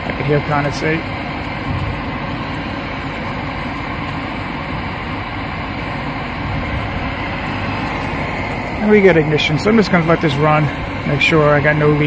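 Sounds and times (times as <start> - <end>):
furnace inducer motor running: 0.0 - 12.0.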